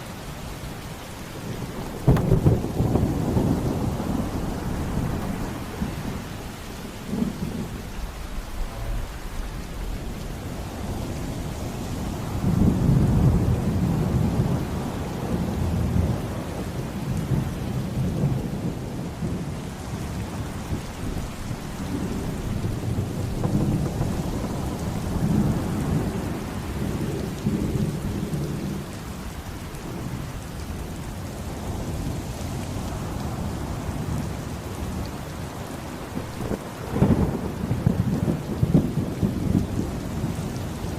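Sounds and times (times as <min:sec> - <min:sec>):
heavy rain: 0:00.0 - 0:40.9
rolling thunder: 0:00.0 - 0:40.9.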